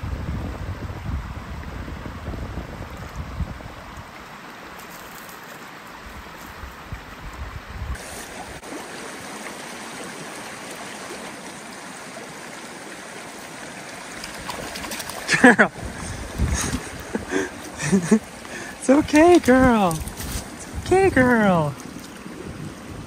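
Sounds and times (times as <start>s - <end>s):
creek water flowing over stones: 2.6s - 23.0s.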